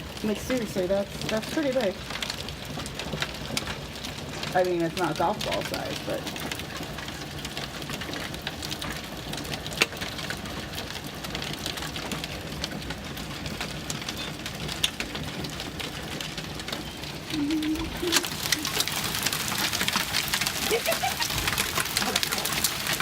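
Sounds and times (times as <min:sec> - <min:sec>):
hail pelting car roof: 0:00.0 - 0:23.0.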